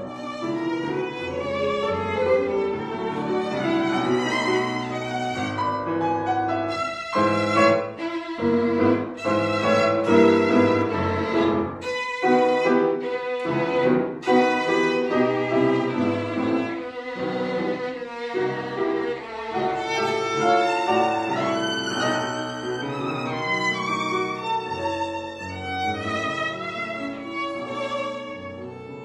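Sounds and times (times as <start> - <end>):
instrumental music with violin: 0.0 - 29.0.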